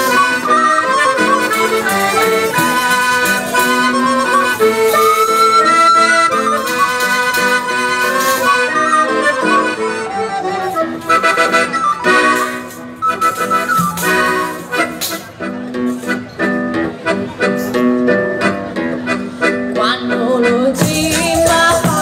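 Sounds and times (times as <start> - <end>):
small wind instrument: 0.0 - 20.2
accordion playing a tune: 0.0 - 22.0
acoustic guitar: 0.0 - 22.0.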